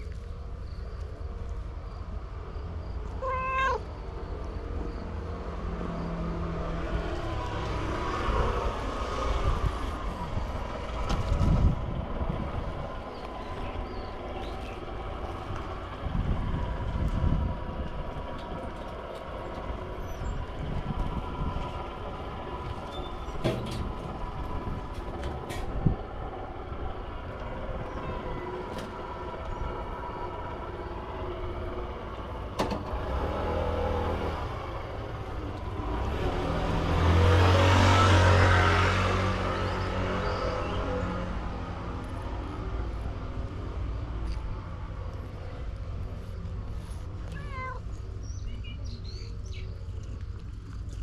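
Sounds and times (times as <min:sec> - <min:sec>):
low engine rumble: 0:00.0 - 0:51.0.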